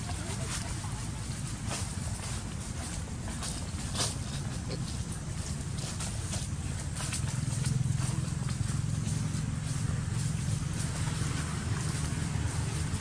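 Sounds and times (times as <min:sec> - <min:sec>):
low motor hum: 0:02.5 - 0:13.0.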